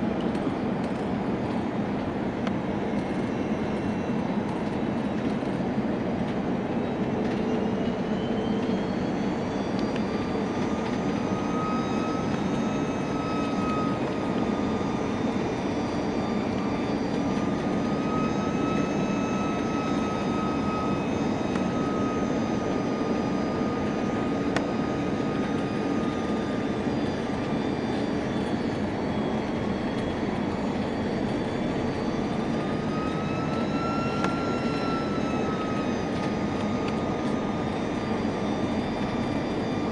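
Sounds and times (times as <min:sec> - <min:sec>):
jet engines in cabin: 0:00.0 - 0:39.9.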